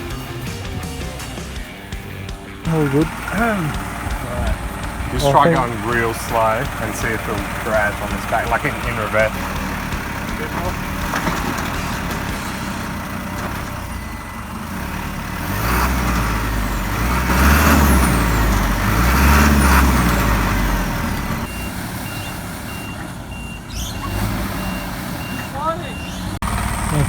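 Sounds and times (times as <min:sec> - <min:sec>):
truck engine revving under load: 0:00.0 - 0:27.0
reversing beeper: 0:02.7 - 0:27.0.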